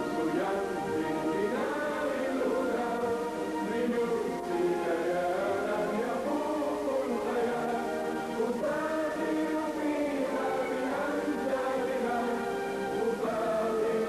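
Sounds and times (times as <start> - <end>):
choir singing held chords: 0.0 - 14.0.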